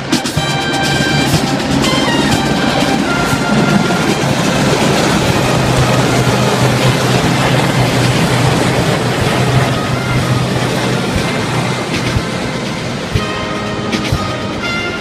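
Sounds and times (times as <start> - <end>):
helicopters flying overhead: 0.0 - 15.0
military brass band playing: 0.0 - 15.0.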